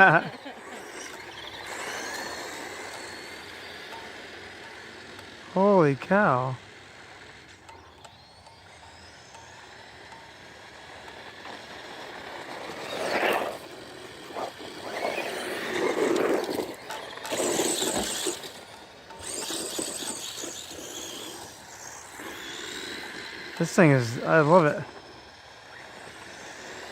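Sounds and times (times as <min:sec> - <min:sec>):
electric rc car motors whining: 0:00.0 - 0:26.9.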